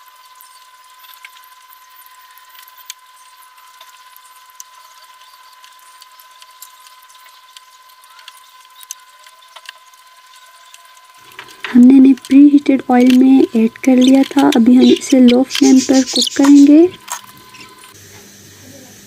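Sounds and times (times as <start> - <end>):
oil sizzling and popping: 0.0 - 18.5
faint high hum: 0.0 - 19.0.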